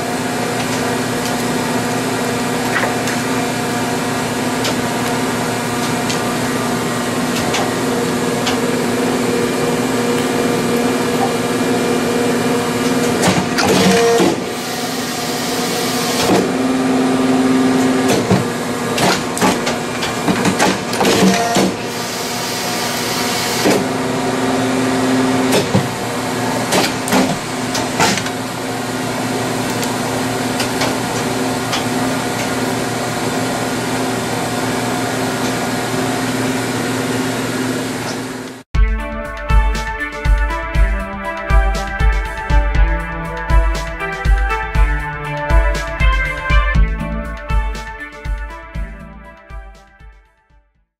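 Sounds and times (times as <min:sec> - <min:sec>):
machine humming: 0:00.0 - 0:49.2.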